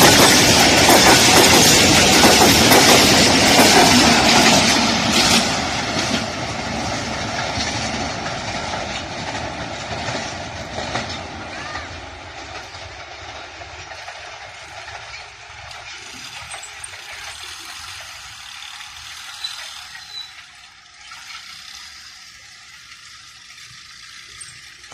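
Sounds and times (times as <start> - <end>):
train wheels on rails: 0.0 - 24.9.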